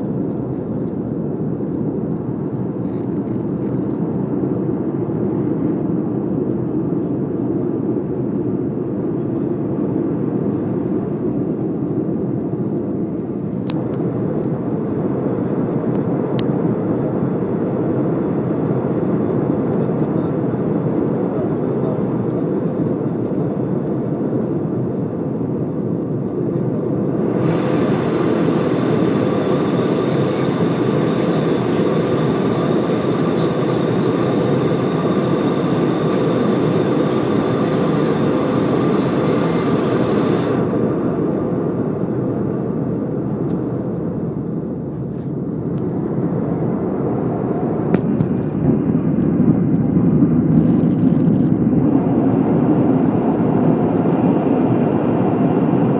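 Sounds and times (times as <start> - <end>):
aircraft engine and airflow roar: 0.0 - 55.9.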